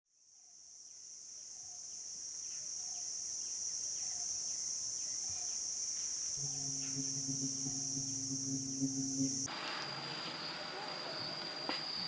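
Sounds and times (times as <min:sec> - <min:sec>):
high-pitched insect chorus: 0:00.5 - 0:12.0.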